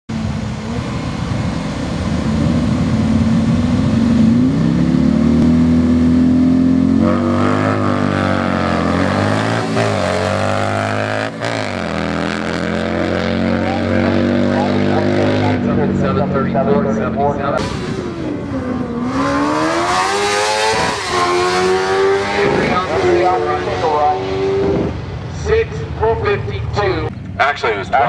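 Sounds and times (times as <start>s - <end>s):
motorcycle engine revving: 0.1s - 25.2s.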